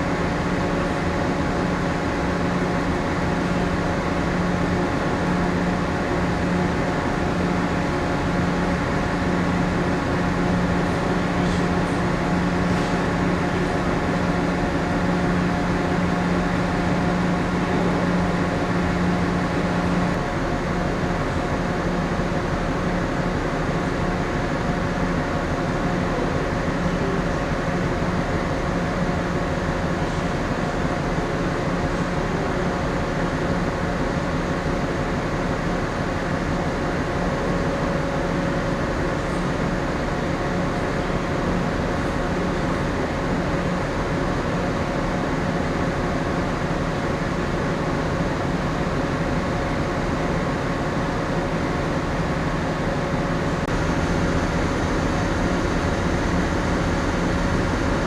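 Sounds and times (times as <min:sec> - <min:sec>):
ship machinery and ventilation hum: 0:00.0 - 0:58.0.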